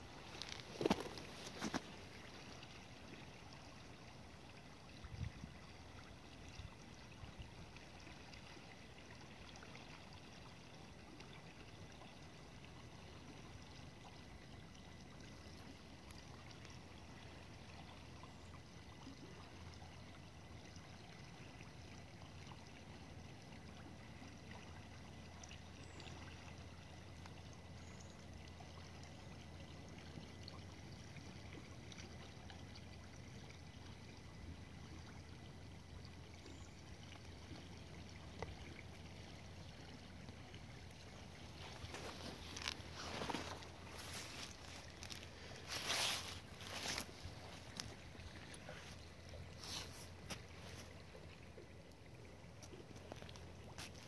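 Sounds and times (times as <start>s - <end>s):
small stream flowing: 0.0s - 54.0s.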